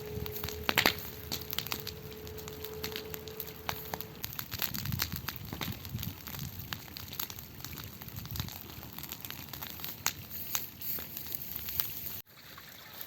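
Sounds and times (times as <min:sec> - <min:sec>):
low rumble of flames: 0:00.0 - 0:12.2
bonfire crackling and popping: 0:00.0 - 0:12.3.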